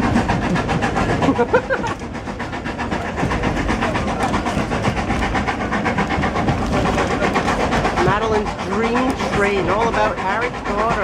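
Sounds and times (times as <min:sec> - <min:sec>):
steam locomotive chuffing: 0:00.0 - 0:11.0
wheels rumbling on rails: 0:00.0 - 0:11.0.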